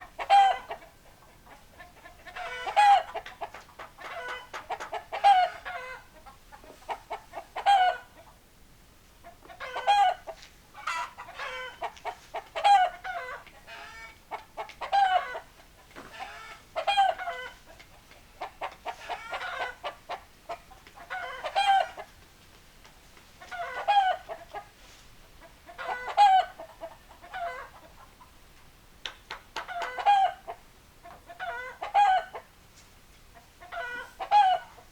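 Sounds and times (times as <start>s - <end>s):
chickens calling loudly: 0.0s - 8.5s, 9.2s - 22.5s, 23.3s - 34.9s.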